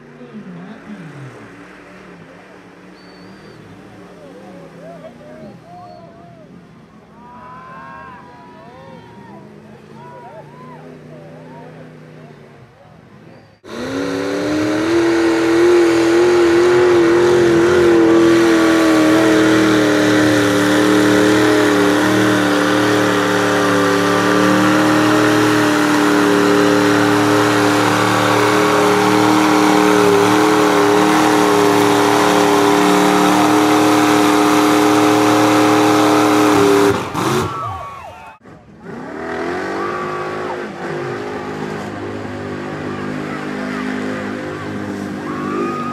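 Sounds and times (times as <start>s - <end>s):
truck engine at high revs: 0.0s - 7.3s, 8.2s - 45.9s.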